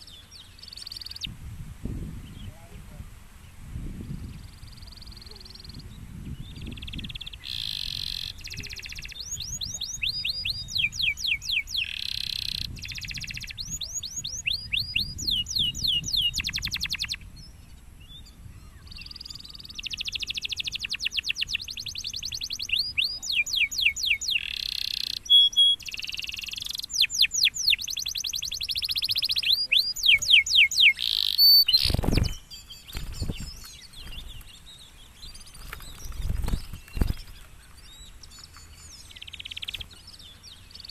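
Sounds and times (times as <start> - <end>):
canary singing: 0.0 - 1.3, 6.4 - 17.2, 18.7 - 40.9.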